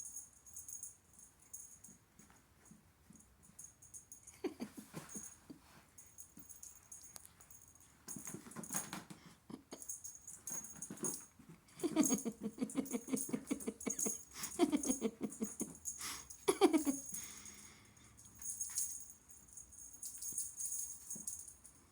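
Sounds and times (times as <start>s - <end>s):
kittens' paws pattering and scrabbling: 1.5s - 16.0s, 18.3s - 21.8s.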